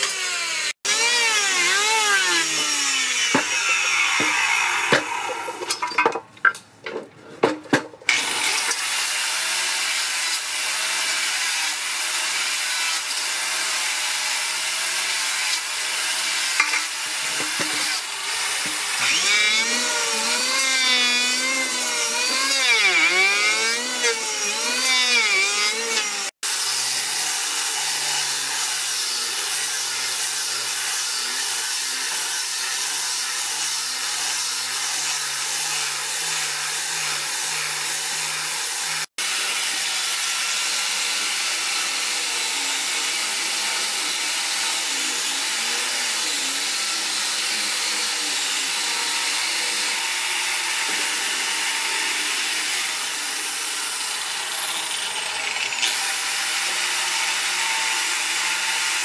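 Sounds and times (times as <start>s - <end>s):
angle grinder sanding: 0.0s - 5.8s, 8.1s - 59.0s
electric planer whining: 0.0s - 5.8s, 8.1s - 59.0s.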